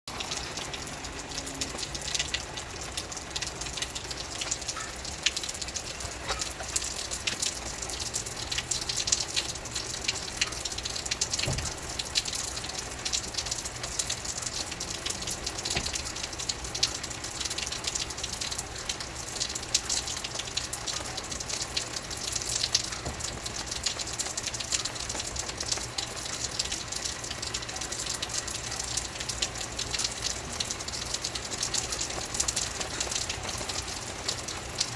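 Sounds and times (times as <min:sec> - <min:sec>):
raindrop hits: 0:00.1 - 0:34.9.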